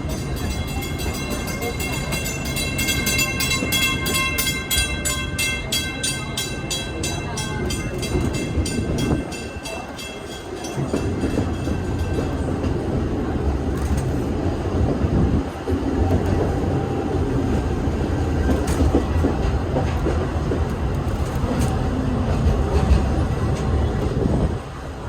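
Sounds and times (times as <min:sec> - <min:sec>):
steam train running: 0:00.0 - 0:25.0
train cars rumbling on track: 0:00.0 - 0:25.0.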